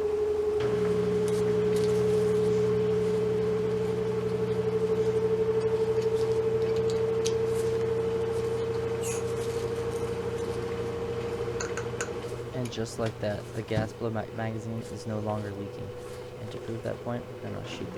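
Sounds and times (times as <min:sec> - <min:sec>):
electrical hum: 0:00.0 - 0:17.9
faint lower hum: 0:00.0 - 0:17.9.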